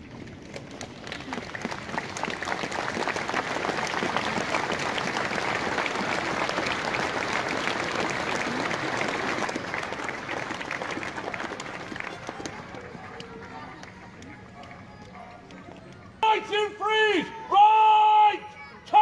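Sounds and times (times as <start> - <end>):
crowd applauding: 0.0 - 16.7.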